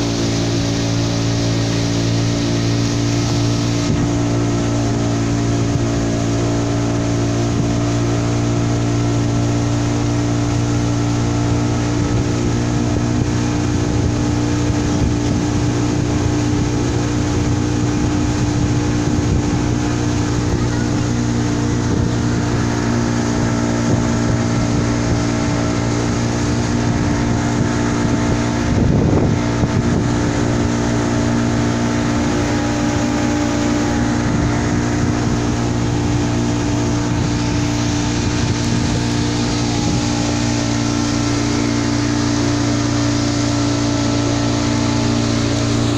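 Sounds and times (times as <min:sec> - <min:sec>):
boat engine droning: 0:00.0 - 0:45.9
rush of noise: 0:00.0 - 0:45.9.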